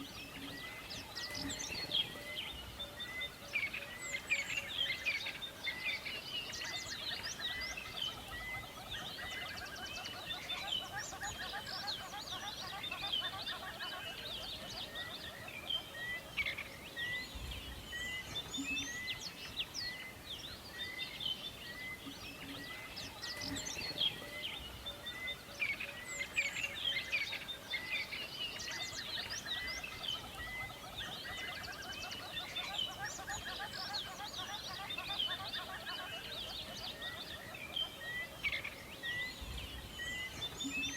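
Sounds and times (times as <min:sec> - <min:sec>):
birds chorus chirping: 0:00.0 - 0:40.9.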